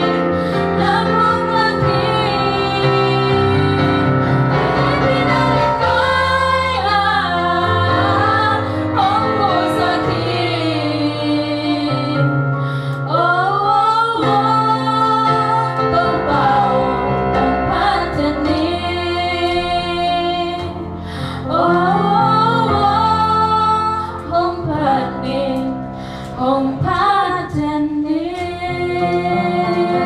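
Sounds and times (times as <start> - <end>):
electronic keyboard accompaniment: 0.0 - 30.0
women singing a duet: 0.0 - 30.0.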